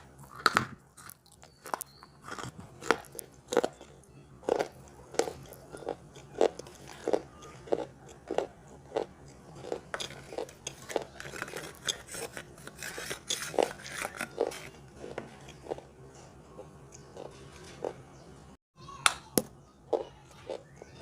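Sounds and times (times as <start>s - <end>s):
person chewing crunchy chalk: 0.0s - 18.0s.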